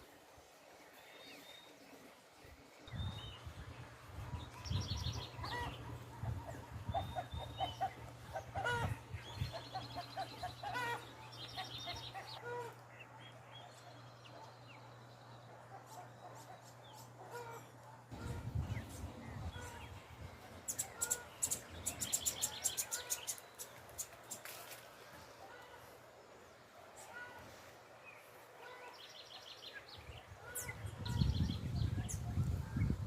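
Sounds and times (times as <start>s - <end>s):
birds chirping and trilling: 0.8s - 33.0s.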